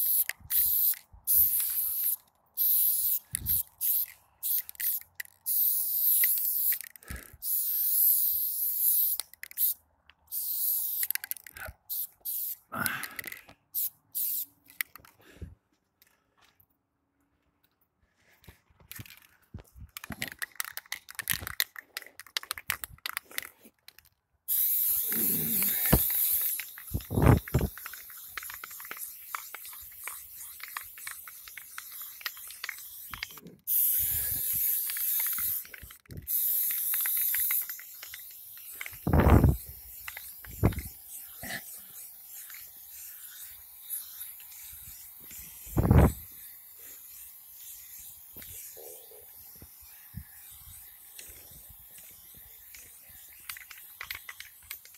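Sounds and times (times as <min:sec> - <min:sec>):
spray paint can hissing: 0:00.0 - 0:15.1, 0:20.0 - 0:54.9
spray can rattling clicks: 0:00.0 - 0:15.2, 0:18.8 - 0:54.9.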